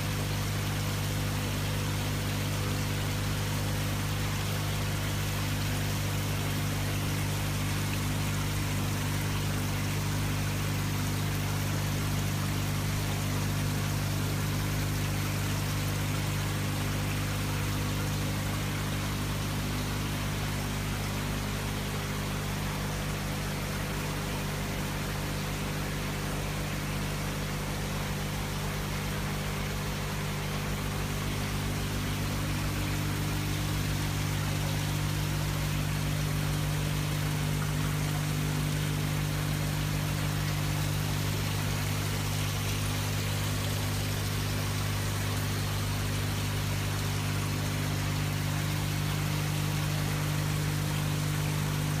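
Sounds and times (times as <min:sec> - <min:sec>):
fountain pumps humming: 0:00.0 - 0:52.0
water running and trickling: 0:00.0 - 0:52.0.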